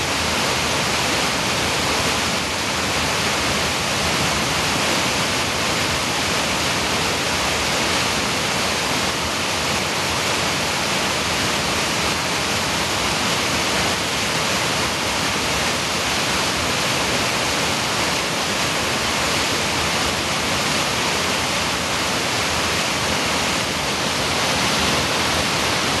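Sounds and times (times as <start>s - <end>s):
waterfall rushing over rocks: 0.0s - 26.0s.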